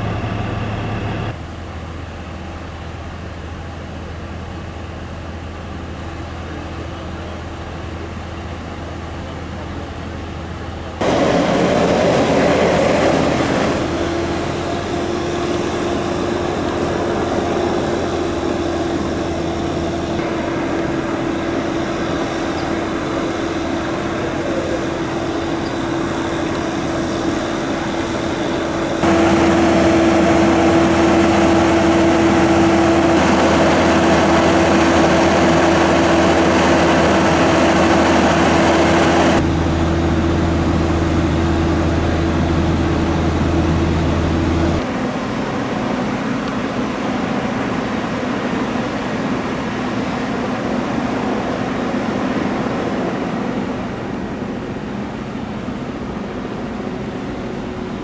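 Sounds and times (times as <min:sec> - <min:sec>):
diesel engine and pump droning: 0:00.0 - 0:58.0.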